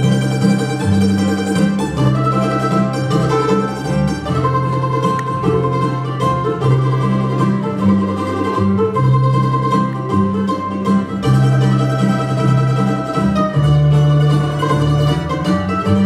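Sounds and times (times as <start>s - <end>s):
fiddle: 0.0s - 16.0s
guitar picking: 0.0s - 16.0s
mandolin picking: 0.0s - 16.0s
upright bass: 0.0s - 16.0s.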